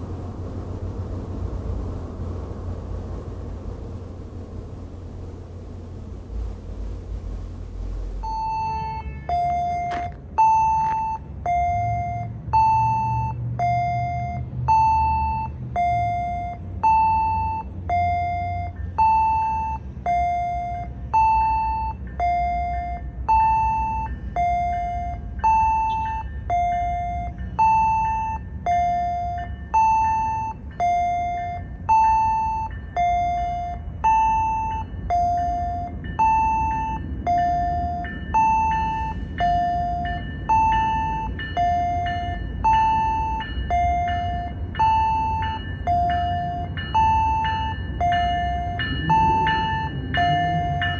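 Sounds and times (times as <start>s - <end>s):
car road noise: 0.0s - 50.9s
two-tone warning chime: 8.2s - 50.9s.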